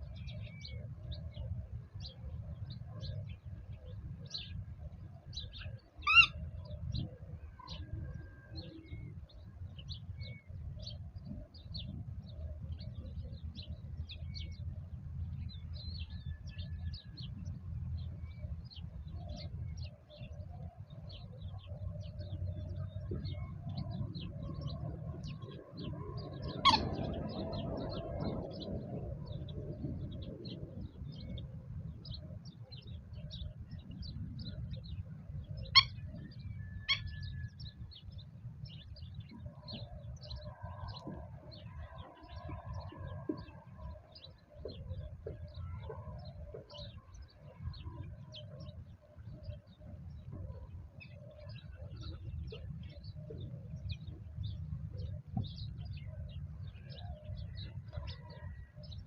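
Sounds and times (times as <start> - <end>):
steady low rumble: 8.8 - 58.1.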